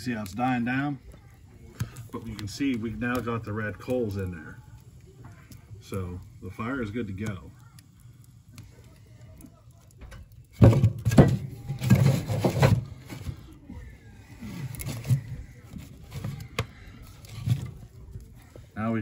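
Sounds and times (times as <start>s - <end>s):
log scraping and knocking in stove: 0.0s - 7.4s, 9.4s - 18.8s.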